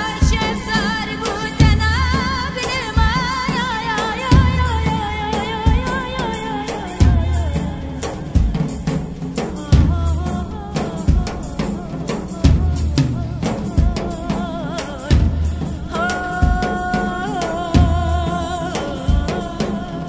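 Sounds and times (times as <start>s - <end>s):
deep drum beat: 0.0s - 20.0s.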